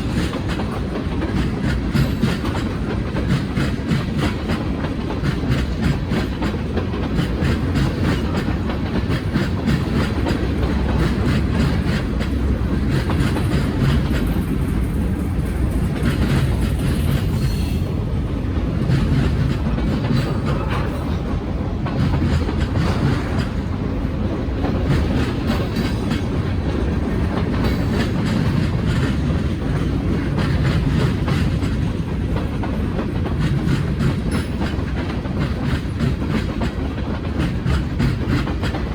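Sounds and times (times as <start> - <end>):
low train rumble: 0.0 - 38.9
train wheels clacking over rail joints: 0.0 - 38.9.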